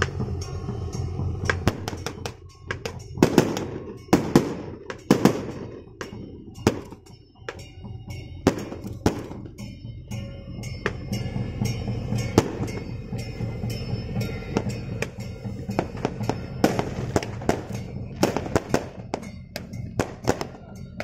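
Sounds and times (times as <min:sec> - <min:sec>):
firecrackers banging: 0:00.0 - 0:09.6, 0:10.7 - 0:21.0
music: 0:00.0 - 0:21.0.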